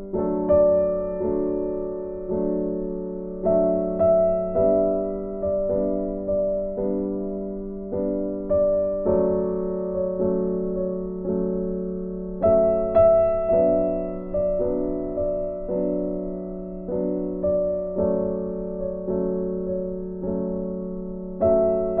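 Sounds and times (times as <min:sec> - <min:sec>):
slow gentle piano chords: 0:00.0 - 0:22.0.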